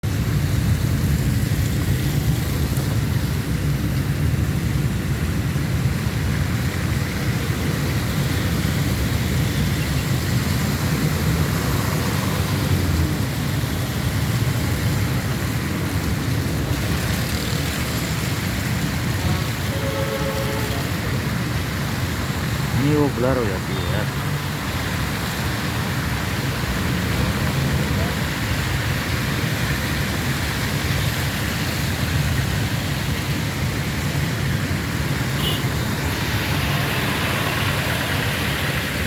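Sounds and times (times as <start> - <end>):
rainfall: 0.0 - 39.0.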